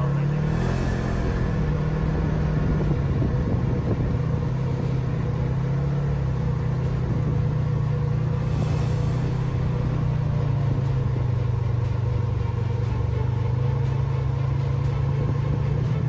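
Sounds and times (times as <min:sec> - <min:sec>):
vehicle engines running at low revs: 0:00.0 - 0:16.0.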